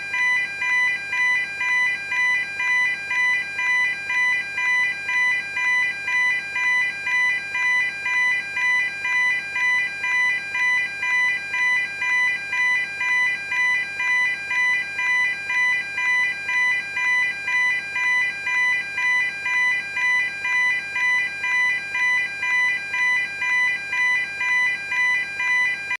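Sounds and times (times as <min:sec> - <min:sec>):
level crossing alarm pulsing: 0:00.0 - 0:26.0.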